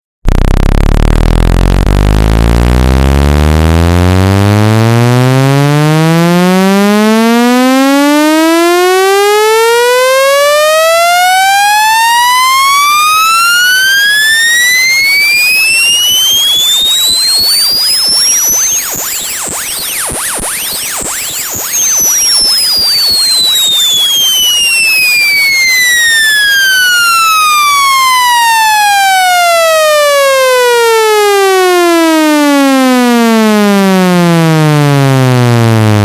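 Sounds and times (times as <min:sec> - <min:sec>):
electronic tone sweeping upward: 0:00.3 - 0:36.0.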